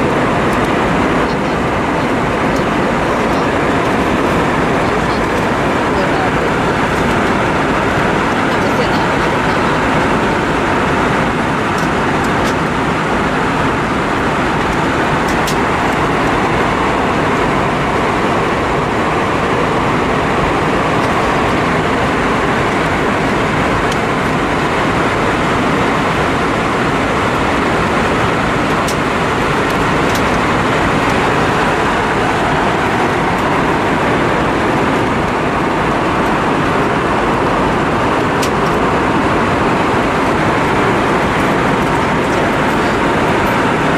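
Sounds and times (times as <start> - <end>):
aircraft cabin noise: 0.0 - 43.9.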